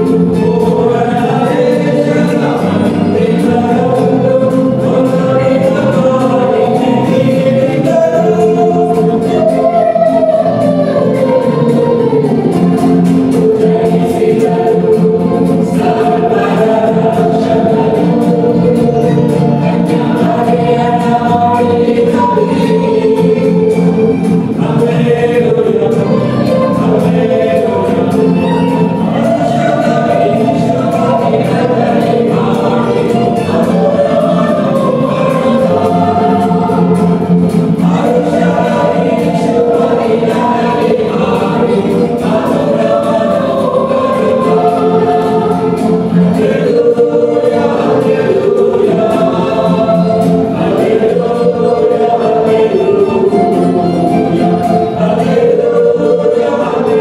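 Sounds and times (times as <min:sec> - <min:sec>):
choir singing: 0:00.0 - 0:57.0
guitars playing: 0:00.0 - 0:57.0.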